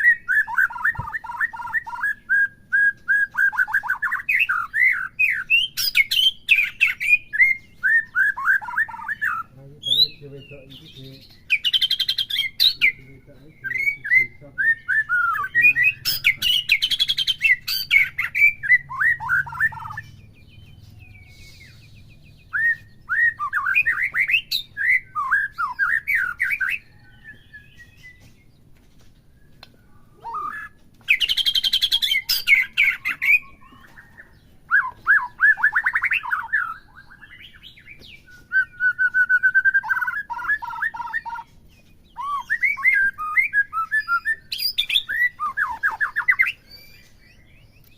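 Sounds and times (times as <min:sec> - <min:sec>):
bird singing whistles and trills: 0:00.0 - 0:28.6, 0:29.3 - 0:47.9.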